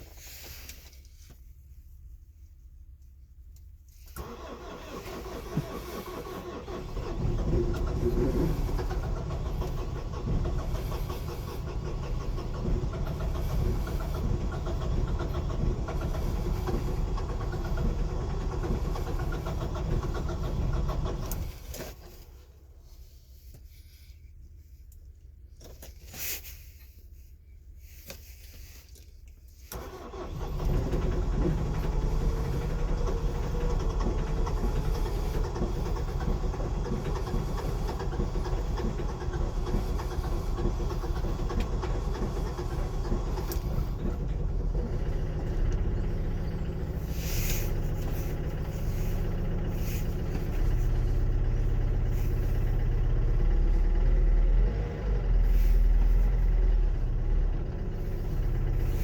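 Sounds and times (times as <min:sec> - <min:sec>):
diesel engine starting: 0:04.0 - 0:24.1, 0:29.6 - 0:59.0
diesel engine idling: 0:04.2 - 0:23.2, 0:29.8 - 0:59.0.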